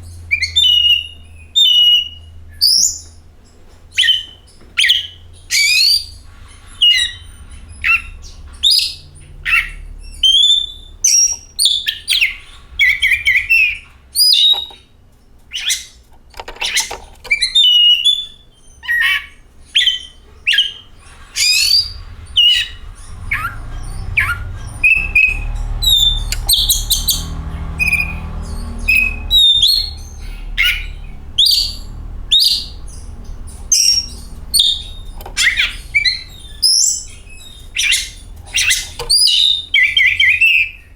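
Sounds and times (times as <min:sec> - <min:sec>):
bird singing whistles and chirps: 0:00.0 - 0:03.2, 0:03.9 - 0:14.8, 0:15.5 - 0:16.0, 0:16.6 - 0:40.9.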